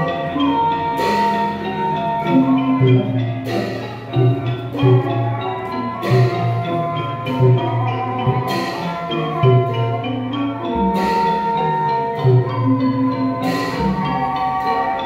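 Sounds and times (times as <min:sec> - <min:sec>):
melody on struck tuned instruments: 0:00.0 - 0:15.0.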